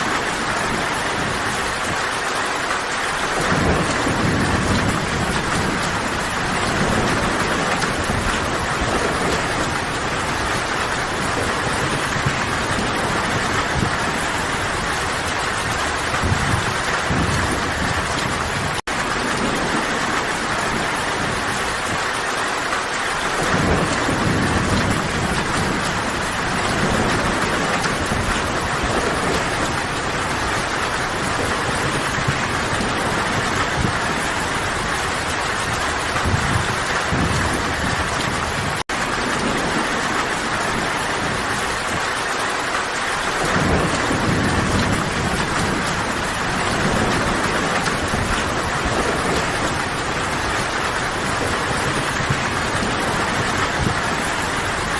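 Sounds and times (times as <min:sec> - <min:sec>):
distant thunder rumbles: 0:00.0 - 0:54.9
heavy rain falling: 0:00.0 - 0:54.9.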